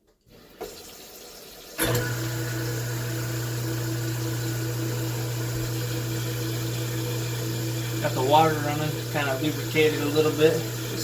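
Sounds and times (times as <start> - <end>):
tap water running: 0.0 - 11.0
garbage disposal motor hum: 0.3 - 11.0.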